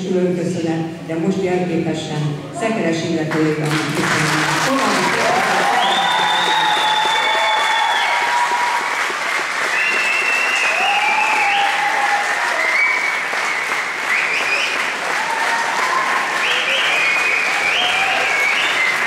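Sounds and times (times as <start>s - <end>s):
audience applauding: 3.3s - 19.0s.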